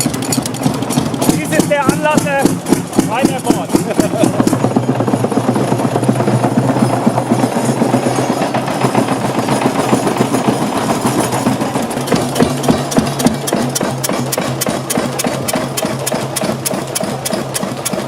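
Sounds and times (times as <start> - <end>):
diesel engine knocking: 0.0 - 18.0.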